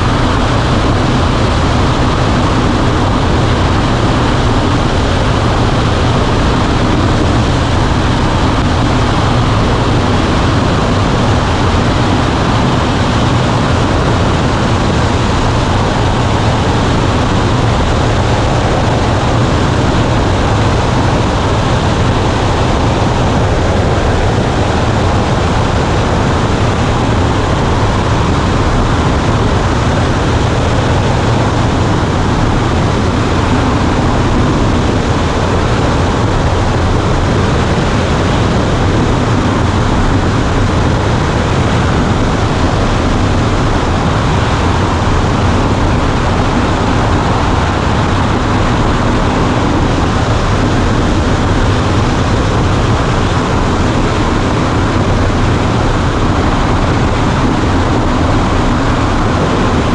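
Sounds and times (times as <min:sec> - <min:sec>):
aircraft engine drone: 0:00.0 - 0:59.9
airflow noise: 0:00.0 - 0:59.9.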